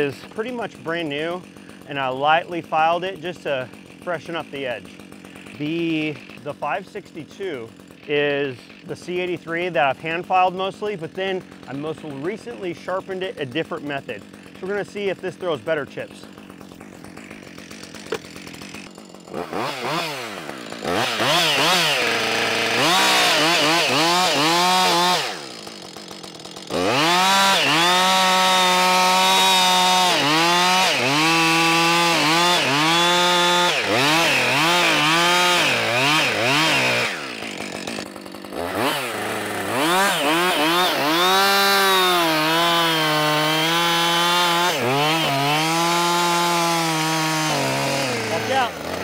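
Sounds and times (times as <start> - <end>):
chainsaw cutting wood: 0.0 - 49.0.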